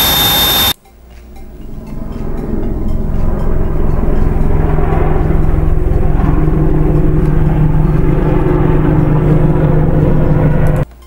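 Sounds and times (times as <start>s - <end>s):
distant helicopter rotor thrum: 0.0s - 10.9s
low drone: 0.0s - 10.9s.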